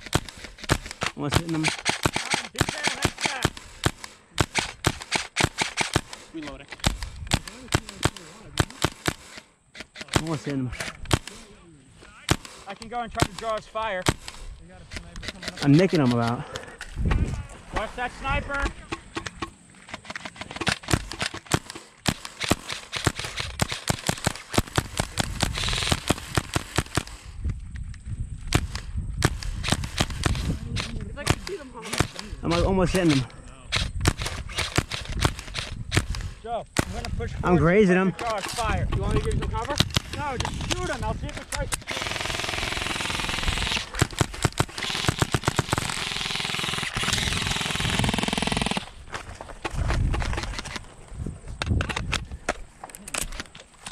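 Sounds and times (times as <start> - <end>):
airsoft rifles firing: 0.0 - 11.5, 12.1 - 16.6, 17.8 - 27.3, 28.5 - 37.1, 37.8 - 49.0.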